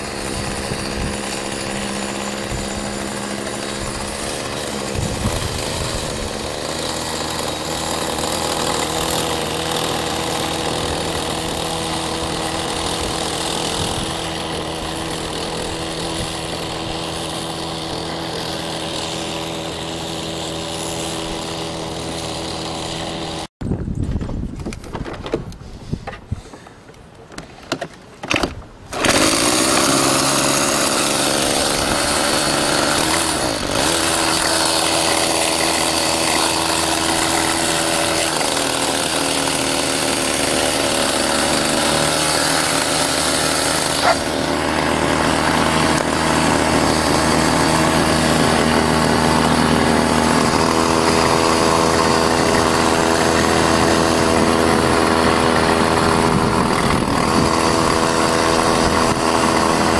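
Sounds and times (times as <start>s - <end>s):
small two-stroke outboard engine: 0.0s - 23.5s, 28.9s - 59.9s.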